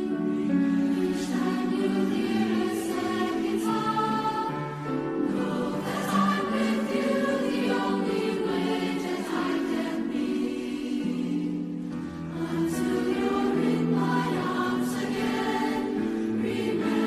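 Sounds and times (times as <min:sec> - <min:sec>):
youth choir singing in harmony: 0:00.0 - 0:17.0.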